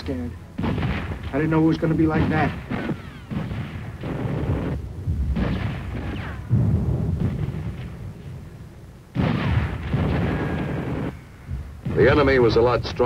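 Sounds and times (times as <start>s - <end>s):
explosions with rumbling echoes: 0.6s - 13.0s
gunfire: 0.6s - 13.0s.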